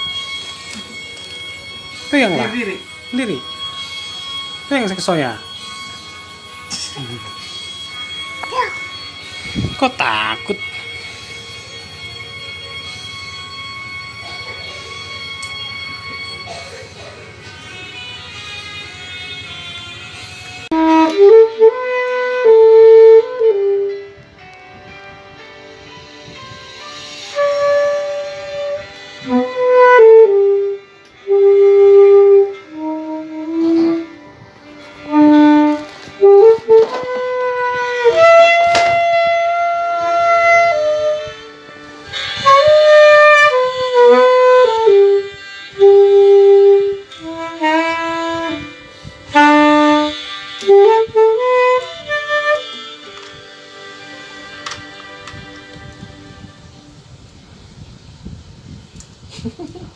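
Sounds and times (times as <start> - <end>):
saxophone playing slow melody: 0.0 - 4.7, 5.4 - 24.6, 26.2 - 57.1
quiet musical accompaniment: 0.0 - 59.7.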